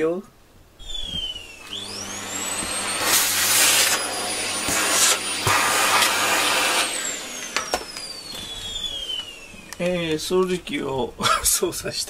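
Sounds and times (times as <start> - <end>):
vacuum cleaner running: 0.8 - 11.0.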